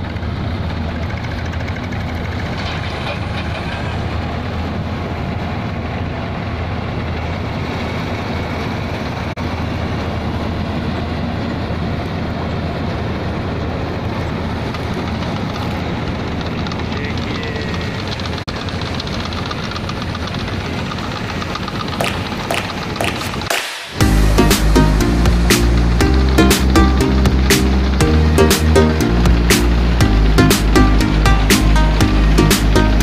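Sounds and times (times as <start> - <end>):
combine harvester engine hum: 0.0 - 33.0
harvesting machinery noise: 0.0 - 33.0.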